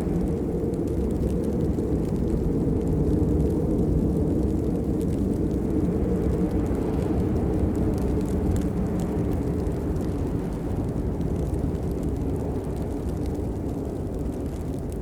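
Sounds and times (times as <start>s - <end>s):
raindrop ticks: 0.0s - 15.0s
steady rain rushing: 0.0s - 15.0s.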